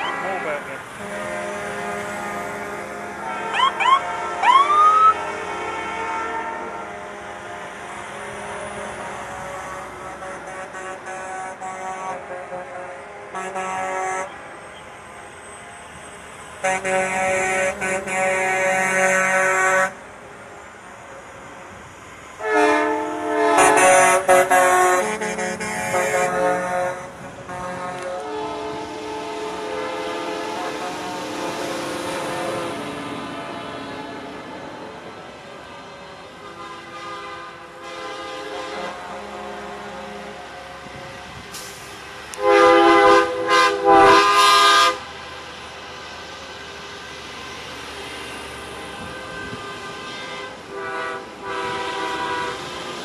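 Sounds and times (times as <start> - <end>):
truck air horn blasts: 0.0 - 14.6, 16.6 - 20.1, 22.4 - 35.0, 36.1 - 45.2, 48.8 - 53.0
low truck engine noise: 0.0 - 53.0.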